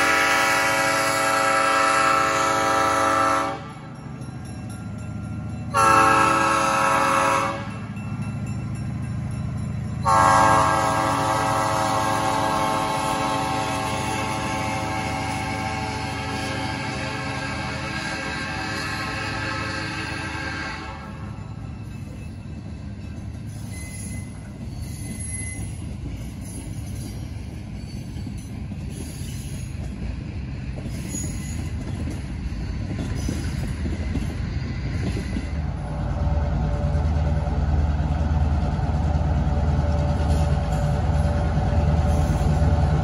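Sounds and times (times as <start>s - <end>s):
diesel locomotive engine droning: 0.0s - 43.0s
train wheels rumbling and clicking: 0.0s - 43.0s.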